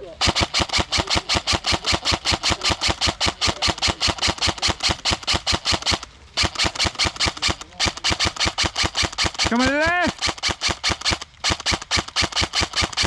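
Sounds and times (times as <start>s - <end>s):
airsoft gun firing full auto: 0.2s - 13.0s.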